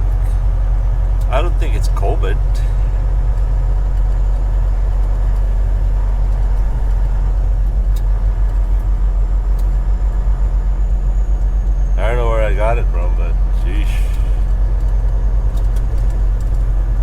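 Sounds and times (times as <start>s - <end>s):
road noise: 0.0s - 17.0s
truck diesel engine drone: 0.0s - 17.0s.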